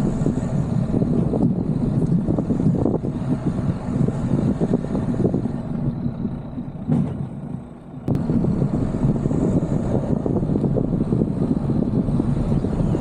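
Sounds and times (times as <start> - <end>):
tyre and road noise on dirt: 0.0 - 13.0
wind buffeting camera: 0.0 - 13.0.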